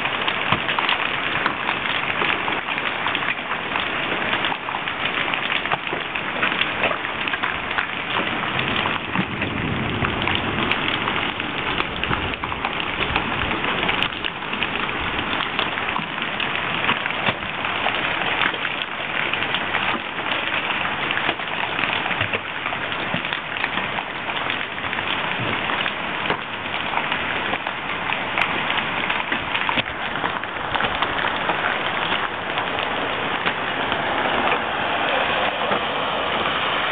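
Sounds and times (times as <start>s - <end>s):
hail and rain falling: 0.0s - 36.9s.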